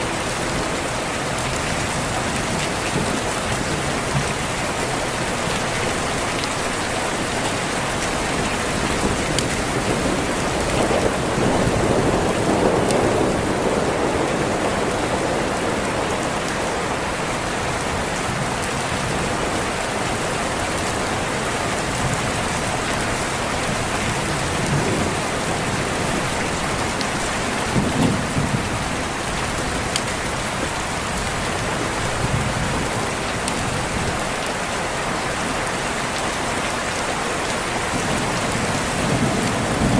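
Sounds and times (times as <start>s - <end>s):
distant thunder rumbling: 0.0s - 19.2s, 23.4s - 34.2s, 38.0s - 39.9s
steady rain: 0.0s - 39.9s.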